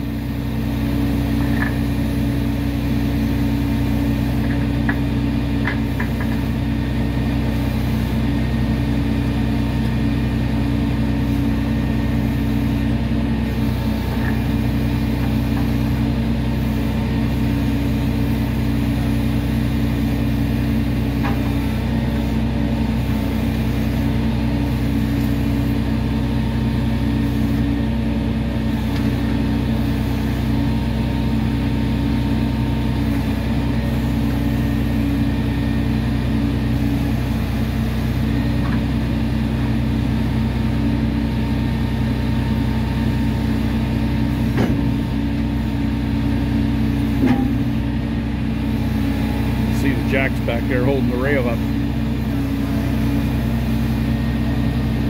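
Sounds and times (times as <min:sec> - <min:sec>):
heavy equipment engine running: 0:00.0 - 0:55.0.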